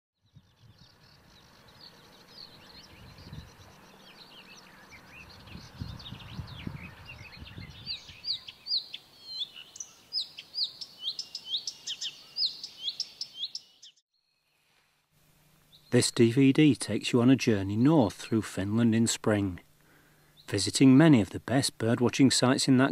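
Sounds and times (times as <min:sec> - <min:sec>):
birds chirping: 0:00.2 - 0:14.5, 0:15.6 - 0:21.3.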